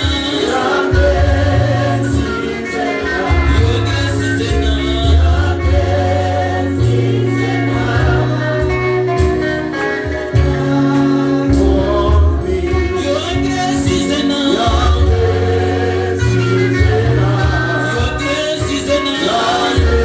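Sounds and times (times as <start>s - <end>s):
band playing: 0.0s - 20.0s
bass line: 0.0s - 20.0s
group singing gospel song: 0.0s - 20.0s.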